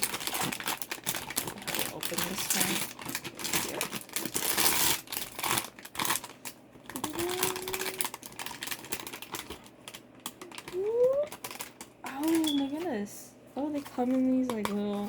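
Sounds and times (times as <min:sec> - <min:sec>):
hands tapping packaging: 0:00.0 - 0:12.9, 0:13.7 - 0:15.0
cardboard and plastic packaging rustling: 0:00.0 - 0:15.0.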